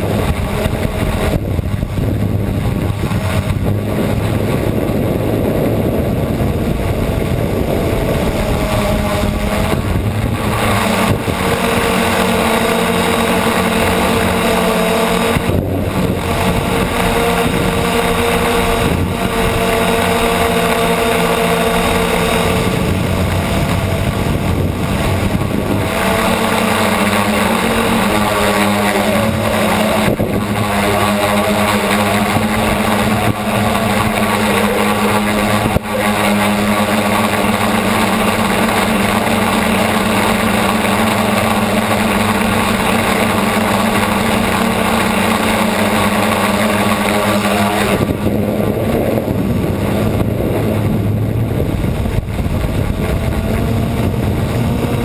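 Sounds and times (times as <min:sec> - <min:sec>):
drone motors buzzing: 0:00.0 - 0:55.0
propeller rushing hiss: 0:00.0 - 0:55.0.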